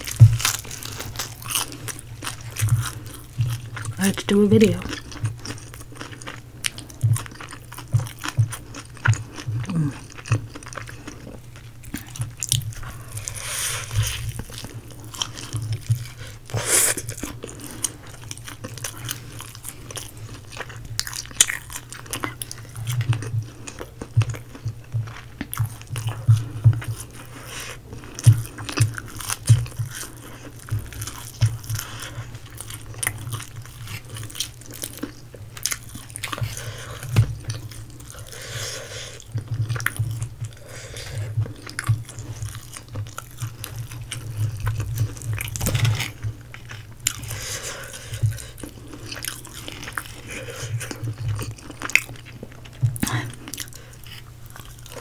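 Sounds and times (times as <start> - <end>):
chewing: 0.0 - 55.0
crunching of crispy fried chicken: 0.0 - 55.0.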